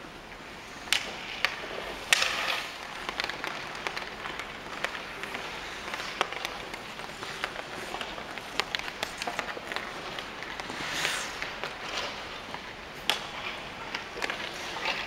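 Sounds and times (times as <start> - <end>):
skates scraping ice: 0.0 - 15.0
hockey puck sharp cracks: 0.9 - 11.9, 13.0 - 15.0
stick blade tapping puck: 0.9 - 15.0.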